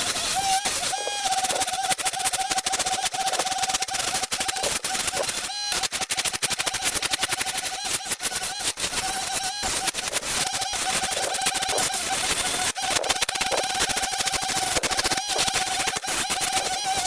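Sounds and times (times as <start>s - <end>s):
tool scratching spinning wood: 0.0s - 17.0s.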